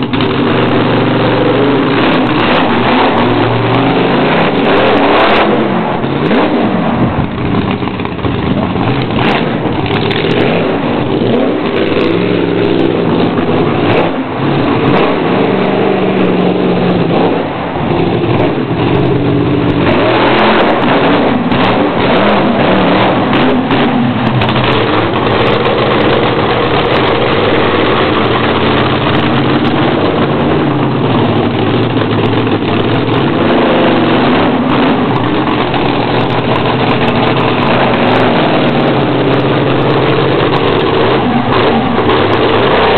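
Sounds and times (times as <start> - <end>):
truck engine revving hard: 0.0 - 42.9.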